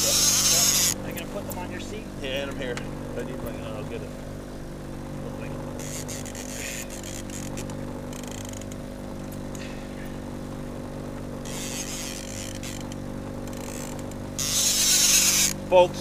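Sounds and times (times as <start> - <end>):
outboard engine humming: 0.0 - 16.0.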